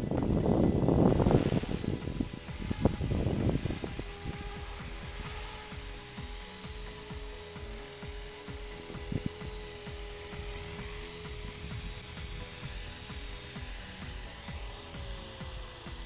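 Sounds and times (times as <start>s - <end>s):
rc helicopter whine: 0.0s - 16.0s.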